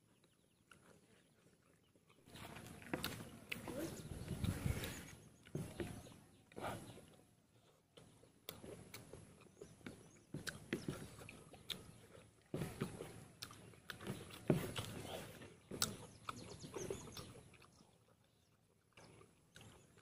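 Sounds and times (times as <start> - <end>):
man chewing wetly: 0.0 - 20.0.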